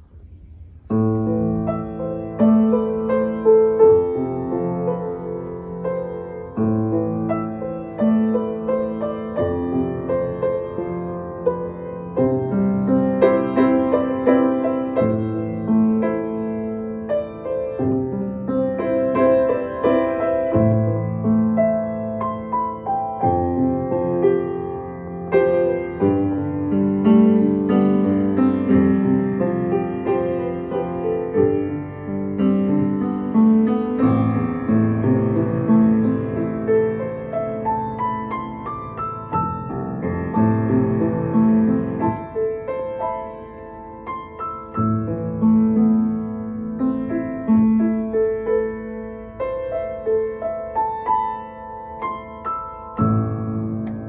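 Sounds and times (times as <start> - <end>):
solo grand piano piece: 0.0 - 54.0.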